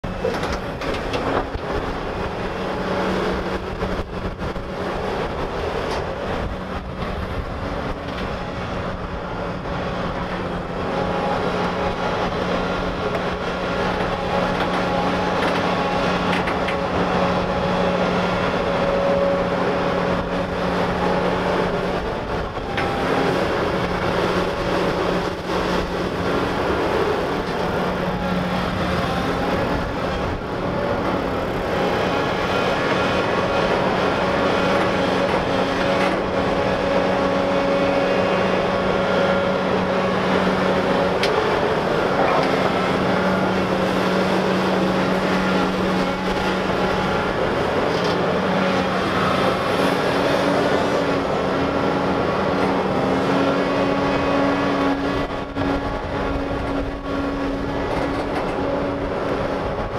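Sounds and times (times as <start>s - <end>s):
excavator diesel engine humming: 0.0s - 59.9s.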